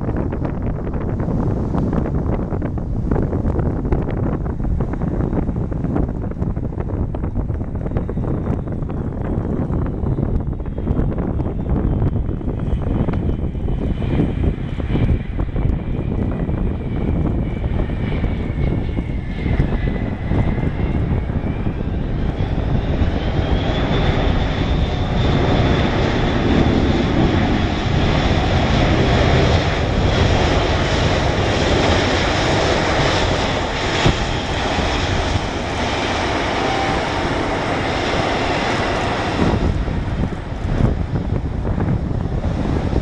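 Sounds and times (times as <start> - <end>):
jet engines whining: 0.0 - 43.0.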